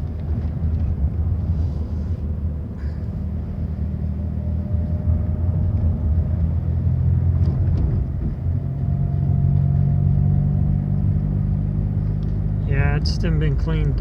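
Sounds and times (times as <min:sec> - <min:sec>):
car engine and tyre hum: 0:00.0 - 0:14.0.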